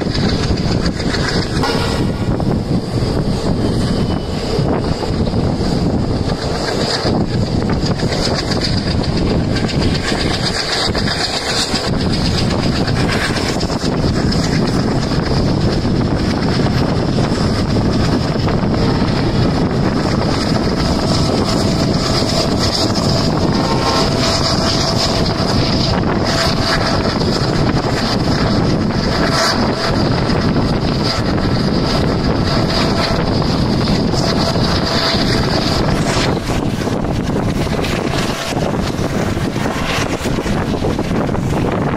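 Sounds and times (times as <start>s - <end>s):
train wheel and rail noise: 0.0s - 41.9s
wind buffeting microphone: 0.0s - 41.9s.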